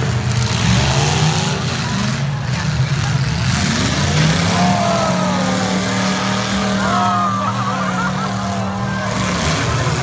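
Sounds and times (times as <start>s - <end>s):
car engines revving under load: 0.0s - 10.0s.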